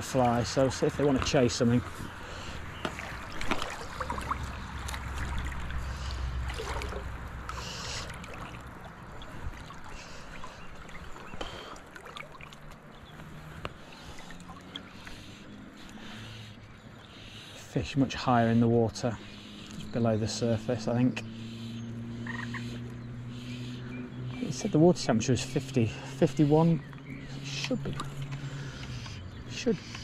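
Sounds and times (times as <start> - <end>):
river water running and lapping: 0.0 - 30.0.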